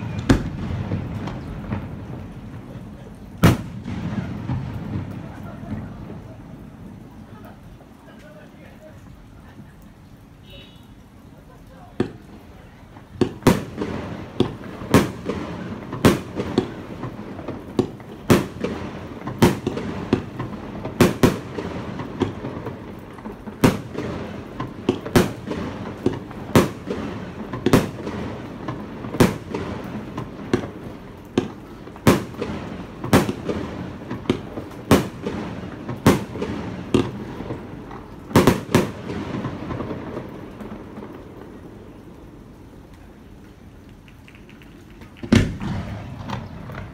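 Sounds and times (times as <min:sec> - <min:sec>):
fireworks bangs with echo: 0:00.0 - 0:07.6, 0:11.8 - 0:42.0, 0:45.0 - 0:46.9.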